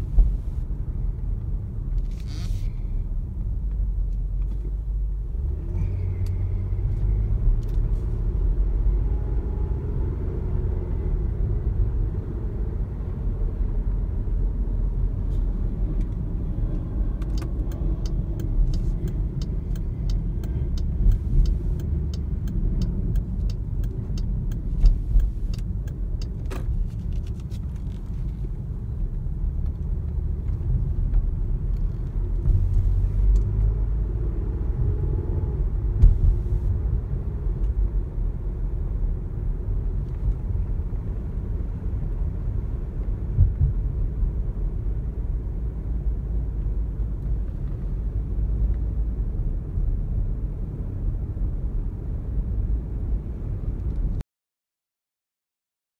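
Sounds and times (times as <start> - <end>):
car road and engine rumble: 0.0 - 54.2.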